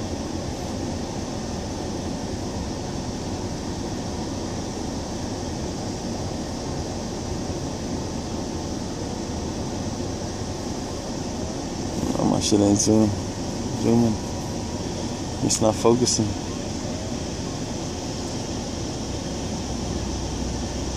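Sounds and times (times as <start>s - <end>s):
rushing noise with low rumble: 0.0s - 20.9s.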